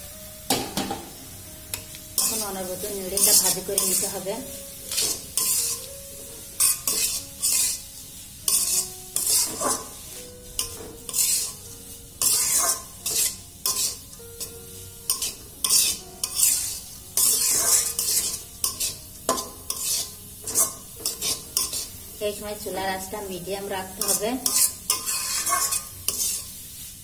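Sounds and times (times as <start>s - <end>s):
carrots sizzling in butter: 0.0s - 27.0s
metal spatula scraping a pan: 2.1s - 22.0s, 23.8s - 27.0s.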